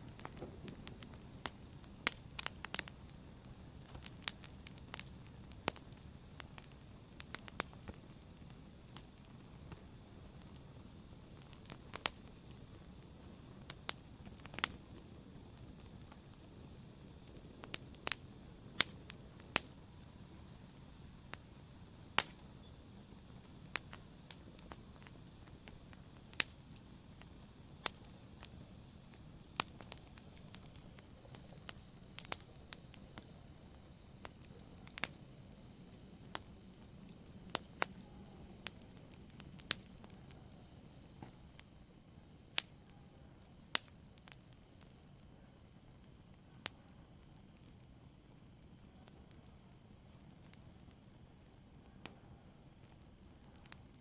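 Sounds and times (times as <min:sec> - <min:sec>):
fire crackling and popping: 0:00.0 - 0:54.0
low hiss of fire: 0:00.0 - 0:54.0.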